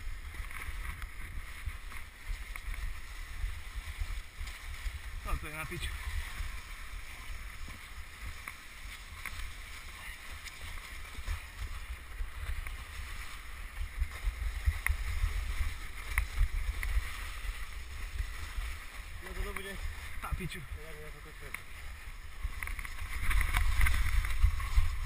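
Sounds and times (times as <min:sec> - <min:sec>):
runners knocking on snow: 0:00.0 - 0:25.0
wind and sled runner rumble: 0:00.0 - 0:25.0.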